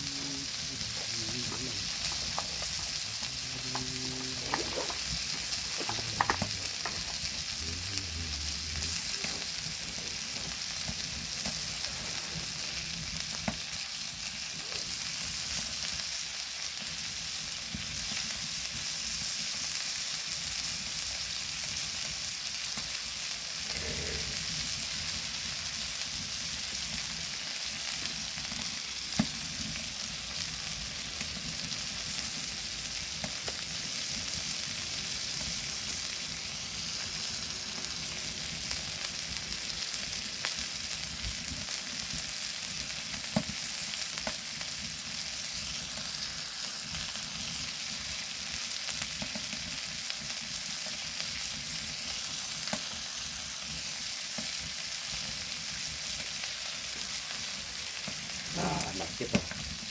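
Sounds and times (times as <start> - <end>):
meat sizzling on hot stone: 0.0 - 59.9.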